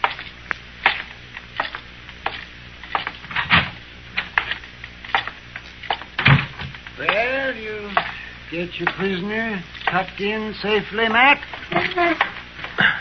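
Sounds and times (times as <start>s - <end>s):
footsteps sound effect: 0.0s - 3.5s, 4.2s - 12.4s
low recording hum: 0.0s - 13.0s.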